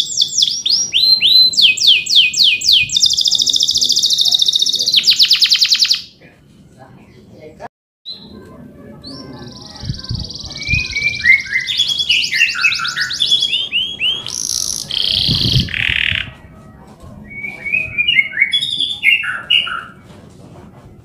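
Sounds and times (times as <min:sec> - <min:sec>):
canary singing: 0:00.0 - 0:06.2, 0:08.1 - 0:20.0.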